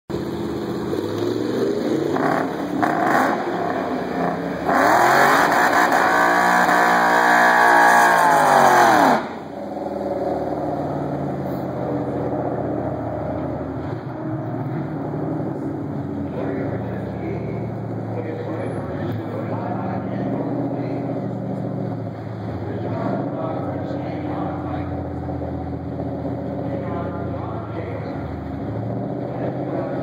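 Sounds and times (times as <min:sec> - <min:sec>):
car engine revving: 0:00.1 - 0:30.0.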